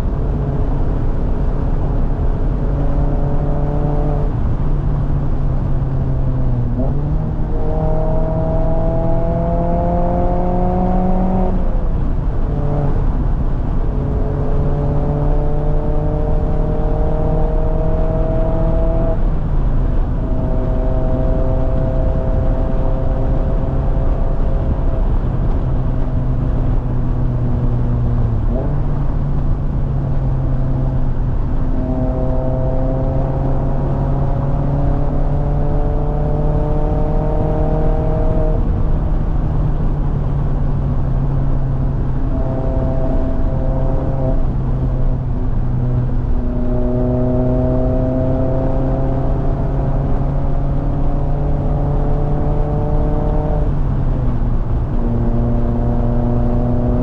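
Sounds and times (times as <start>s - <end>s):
car engine accelerating: 0.0s - 57.0s
wind and road noise: 0.0s - 57.0s.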